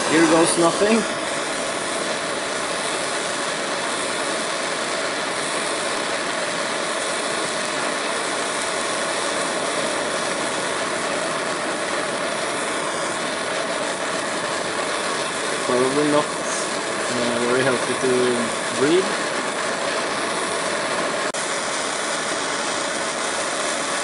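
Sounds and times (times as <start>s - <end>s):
blowtorch flame hissing: 0.0s - 24.0s.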